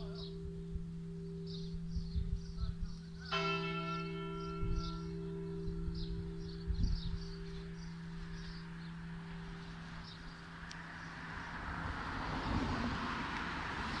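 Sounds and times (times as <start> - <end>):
church bell ringing: 0.0 - 11.4.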